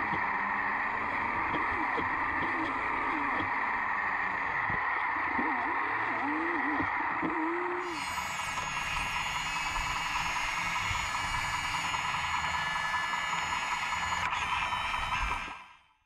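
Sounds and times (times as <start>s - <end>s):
hydraulic pump whining: 0.0s - 15.7s.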